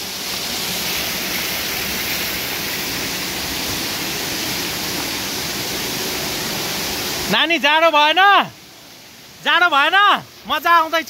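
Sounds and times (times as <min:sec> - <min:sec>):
water pouring and spraying: 0:00.0 - 0:11.0.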